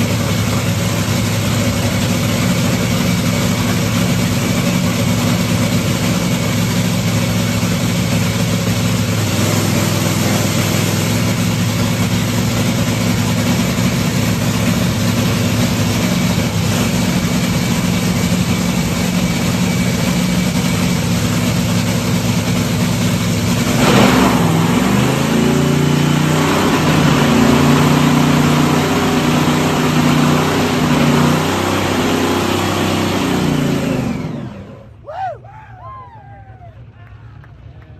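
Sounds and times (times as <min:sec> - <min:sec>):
race car engine idling: 0:00.0 - 0:35.0.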